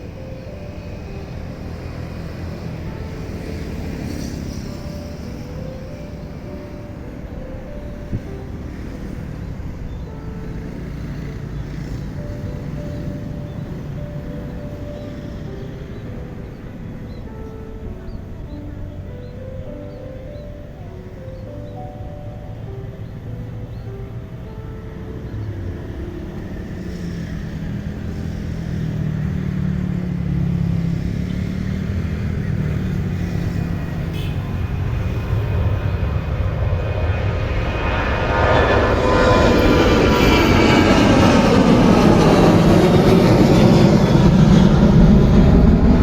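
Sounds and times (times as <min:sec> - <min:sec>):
jet airliner engines: 0:00.0 - 0:46.0.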